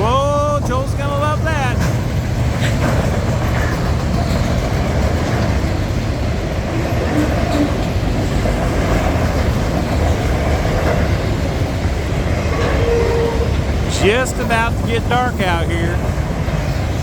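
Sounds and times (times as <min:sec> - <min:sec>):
freight train wheels rumbling on rail: 0:00.0 - 0:17.0.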